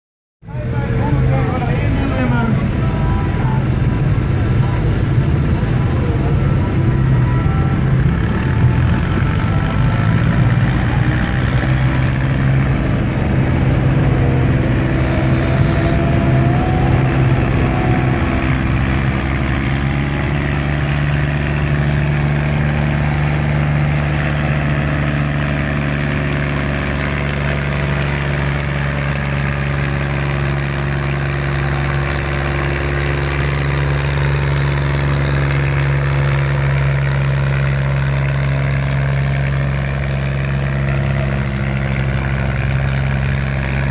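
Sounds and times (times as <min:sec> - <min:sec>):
tractor diesel engine droning: 0:00.4 - 0:43.9.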